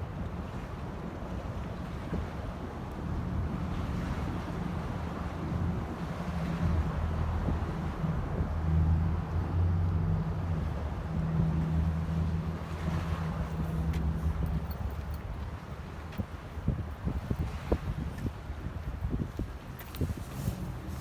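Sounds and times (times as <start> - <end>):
wind buffeting microphone: 3.4 - 21.0.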